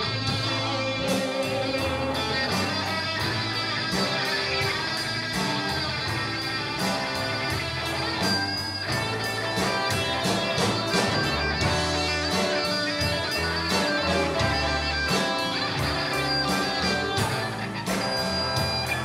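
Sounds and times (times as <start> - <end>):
bass guitar: 0.0 - 19.0
drums: 0.0 - 19.0
electric guitars: 0.0 - 19.0.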